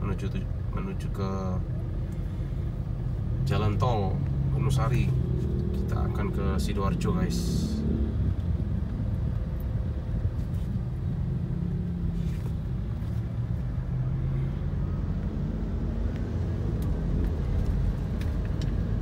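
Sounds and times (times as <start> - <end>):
car engine hum: 0.0 - 19.0
road rumble: 0.0 - 19.0.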